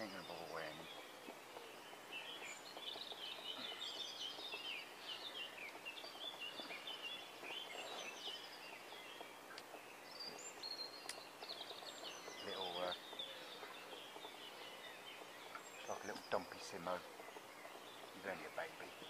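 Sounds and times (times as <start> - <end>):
songbirds chirping and warbling: 0.0 - 19.0.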